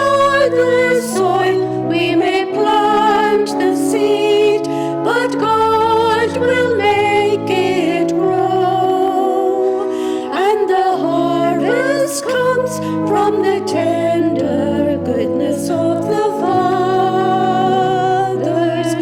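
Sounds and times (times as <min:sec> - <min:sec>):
voices singing a hymn: 0:00.0 - 0:19.0.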